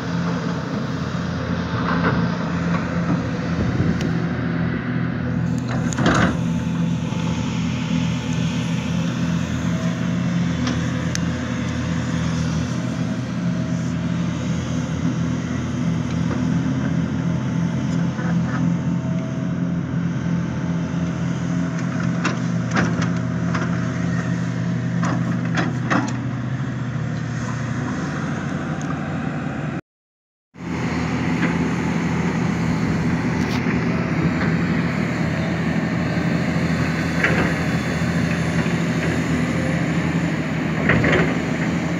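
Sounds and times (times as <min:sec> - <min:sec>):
excavator diesel engine running: 0:00.0 - 0:29.8, 0:30.6 - 0:41.9.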